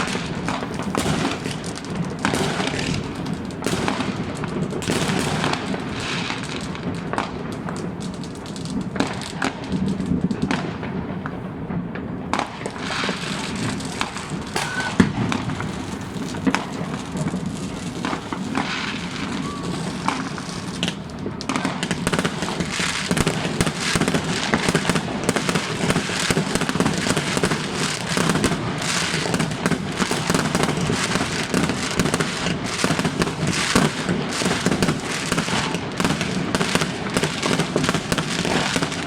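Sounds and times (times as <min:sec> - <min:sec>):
fireworks crackling and banging: 0:00.0 - 0:39.0.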